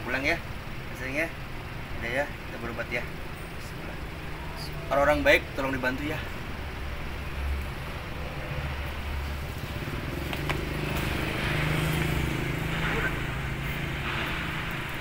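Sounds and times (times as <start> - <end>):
street traffic hum: 0.0 - 15.0
vehicles passing: 0.0 - 15.0.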